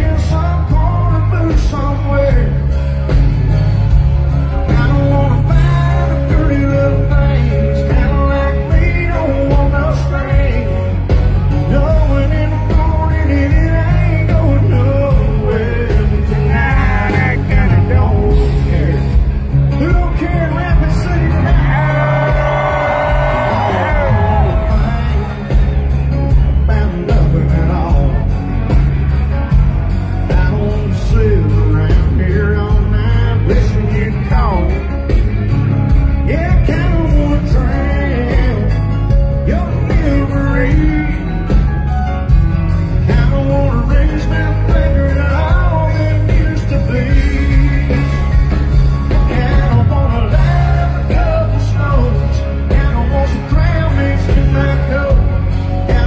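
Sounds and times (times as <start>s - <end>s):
person singing lead vocal: 0.0s - 3.1s, 4.5s - 28.9s, 29.6s - 35.5s, 36.1s - 42.3s, 42.9s - 56.0s
live country band playing: 0.0s - 56.0s.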